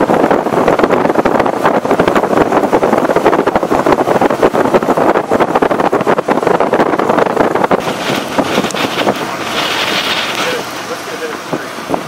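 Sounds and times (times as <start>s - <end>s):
vehicle road noise: 0.0s - 12.0s
wind buffeting microphone: 0.0s - 12.0s.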